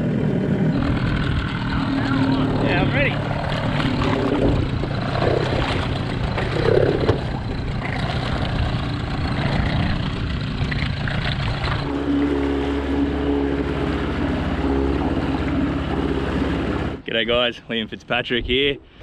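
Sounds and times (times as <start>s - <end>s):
outboard motor idling: 0.0s - 17.1s.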